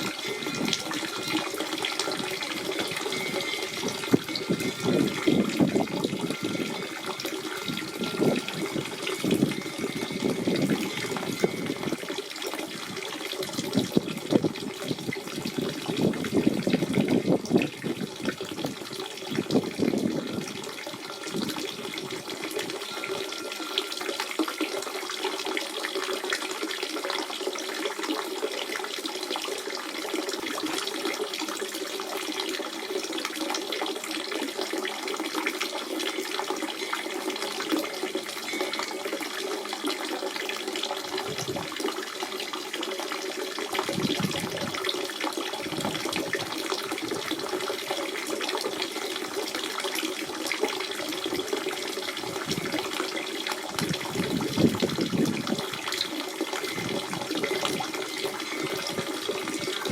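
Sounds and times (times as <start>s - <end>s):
spring water gurgling: 0.0s - 59.9s.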